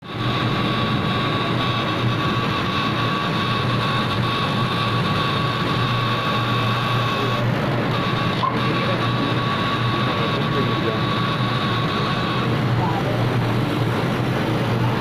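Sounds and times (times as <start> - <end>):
laser cutter hum and whine: 0.0 - 15.0.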